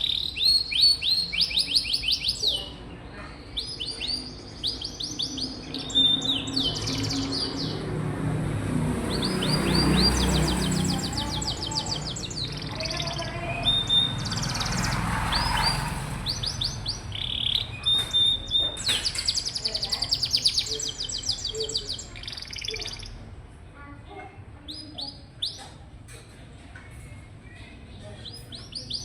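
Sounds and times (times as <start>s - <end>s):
canary singing trills: 0.0s - 8.2s, 8.9s - 23.2s, 24.6s - 25.8s, 27.2s - 29.0s.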